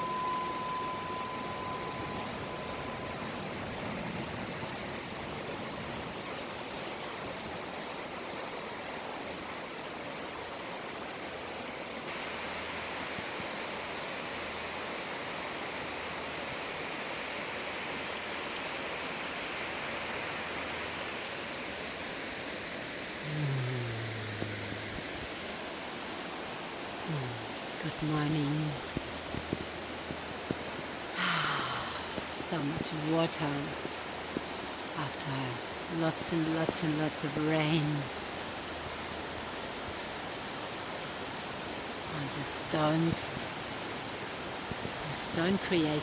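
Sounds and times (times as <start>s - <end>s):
stream rushing: 0.0s - 46.0s.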